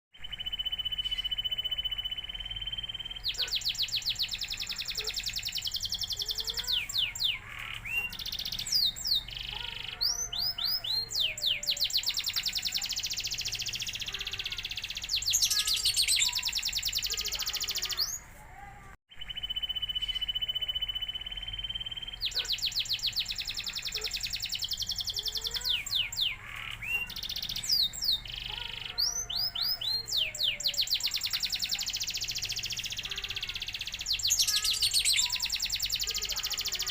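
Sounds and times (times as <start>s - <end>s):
canary singing trills: 0.2s - 36.9s.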